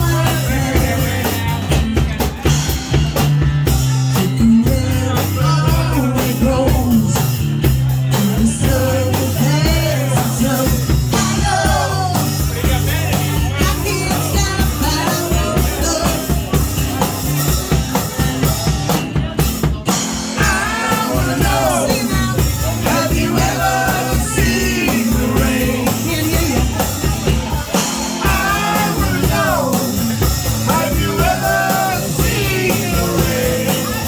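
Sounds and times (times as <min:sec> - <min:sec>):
person singing: 0:00.0 - 0:02.1, 0:03.8 - 0:16.7, 0:20.4 - 0:34.0
rock band accompaniment: 0:00.0 - 0:34.0
steady drum beat: 0:00.0 - 0:34.0.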